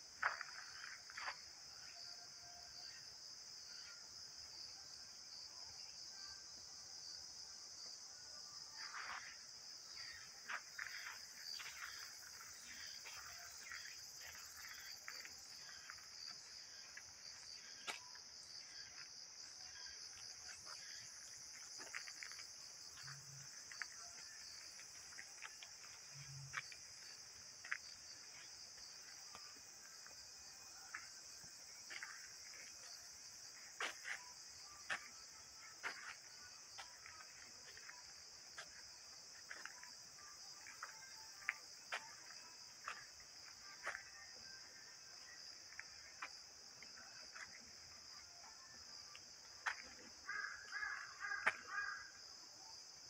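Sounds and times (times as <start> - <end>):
footsteps on dirt path: 0.0 - 2.1, 8.7 - 48.2, 48.8 - 52.0
insects chirping: 0.0 - 53.0.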